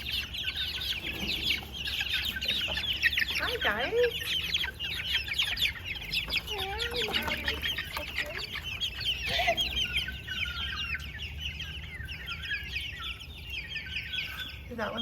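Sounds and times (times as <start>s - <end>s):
birds peeping: 0.0s - 15.0s
lower wavering bird calls: 0.0s - 15.0s.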